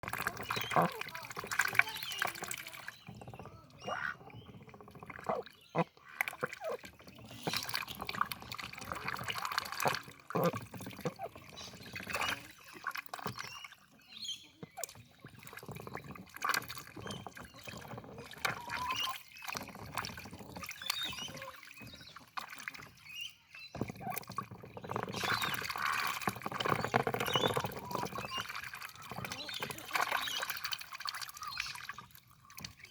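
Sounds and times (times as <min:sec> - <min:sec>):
duck dabbling in water: 0:00.0 - 0:32.9.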